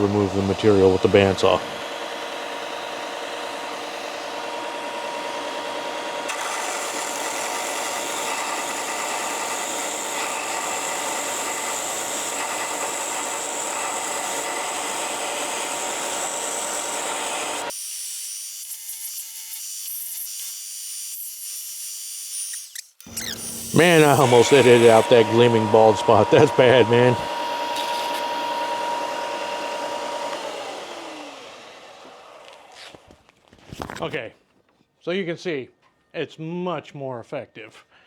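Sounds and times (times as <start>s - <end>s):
belt sander grinding wood: 0.0s - 33.2s.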